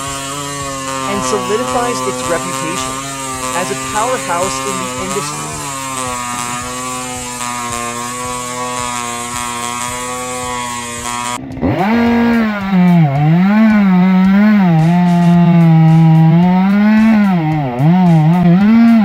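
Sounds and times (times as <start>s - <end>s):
chainsaw engine running high speed: 0.0s - 19.0s
chainsaw revving under load: 0.0s - 19.0s.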